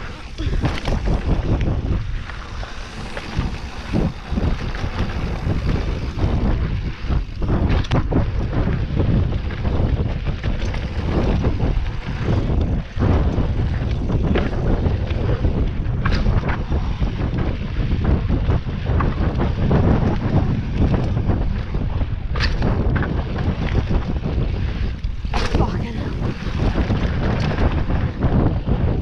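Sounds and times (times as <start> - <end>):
bike knocking and rattling: 0.0 - 29.0
knobby tyres rumbling on dirt: 0.0 - 29.0
wind buffeting microphone: 0.0 - 29.0.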